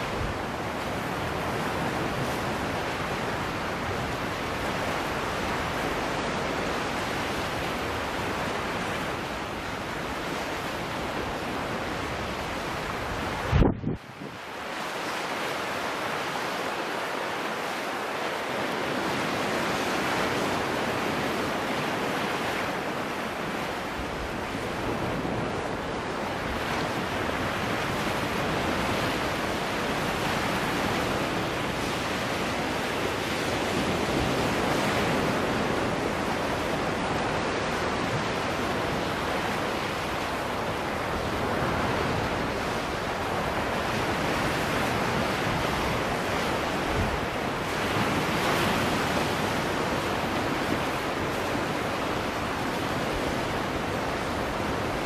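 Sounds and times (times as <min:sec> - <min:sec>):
waves washing over rocks: 0:00.0 - 0:55.0.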